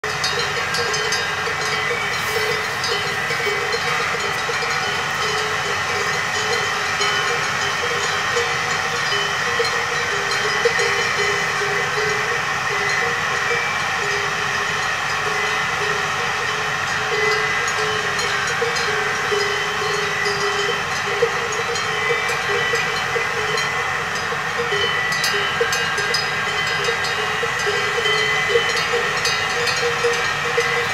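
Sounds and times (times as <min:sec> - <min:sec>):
cowbells clanking: 0:00.0 - 0:30.9
generator humming: 0:00.0 - 0:30.9.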